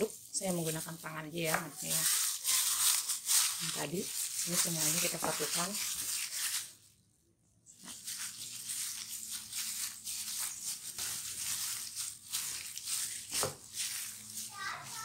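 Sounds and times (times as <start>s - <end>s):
dough squelching: 0.0s - 6.8s, 7.7s - 15.0s
plastic glove crinkling: 0.0s - 7.0s, 7.7s - 15.0s.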